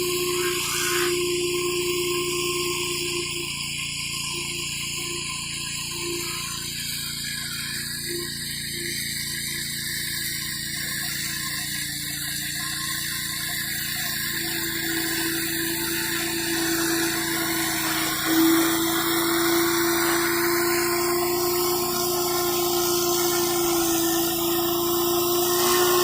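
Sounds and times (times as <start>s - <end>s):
high-pressure water jet hissing: 0.0s - 26.0s
pressure washer engine running: 0.0s - 26.0s.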